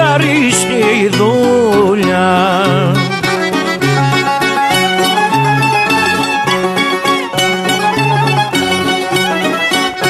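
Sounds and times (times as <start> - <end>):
instrumental folk music: 0.0 - 10.0.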